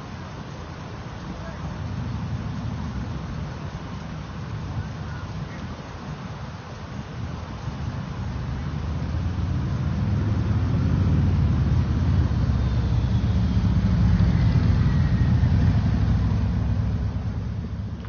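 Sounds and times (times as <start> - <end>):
ship engine rumble: 0.0 - 18.0.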